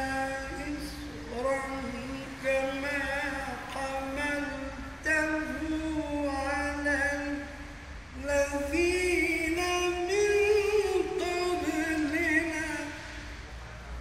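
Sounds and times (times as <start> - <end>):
man chanting melodically: 0.0 - 13.3.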